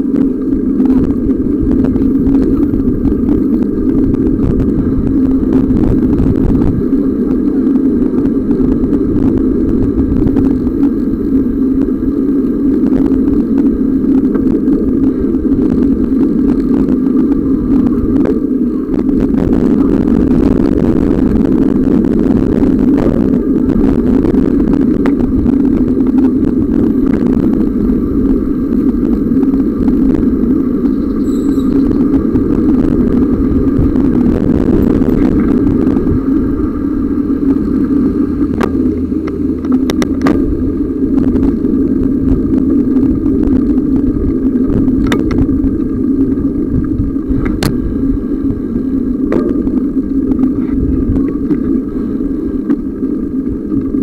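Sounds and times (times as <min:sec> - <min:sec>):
bicycle rolling noise: 0:00.0 - 0:54.0
wind on microphone: 0:00.0 - 0:54.0.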